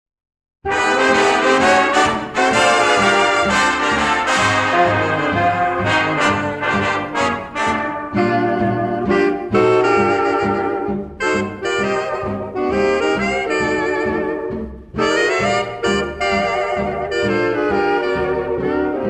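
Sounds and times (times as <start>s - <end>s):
brass music: 0.6s - 19.0s.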